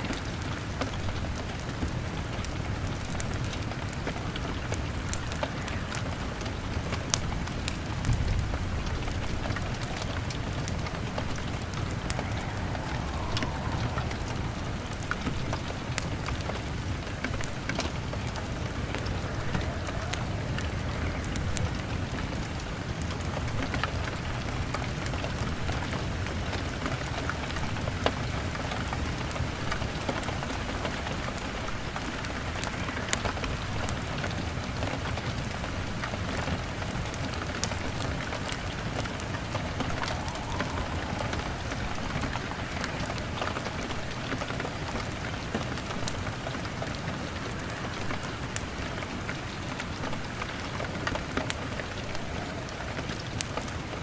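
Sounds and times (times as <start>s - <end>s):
fire crackling and popping: 0.0s - 54.0s
rain on window glass: 0.0s - 54.0s.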